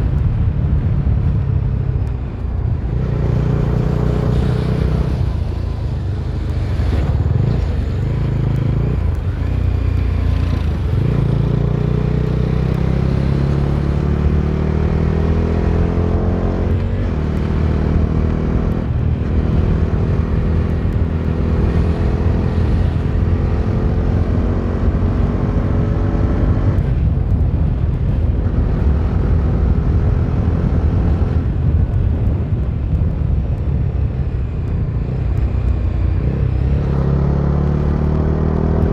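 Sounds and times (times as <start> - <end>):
low rumble of the ride: 0.0 - 11.8, 16.6 - 38.9
motorcycle engine revving: 0.0 - 38.9.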